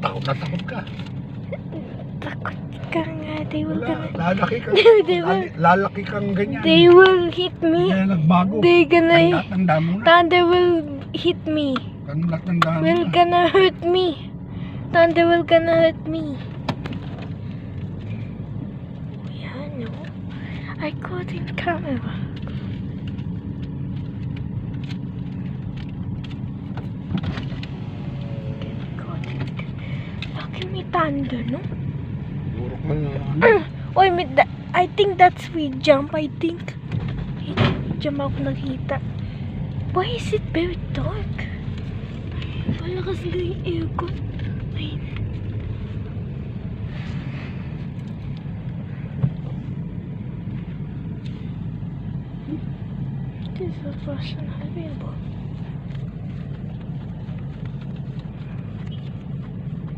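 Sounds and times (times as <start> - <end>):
car cabin hum: 0.0 - 59.9.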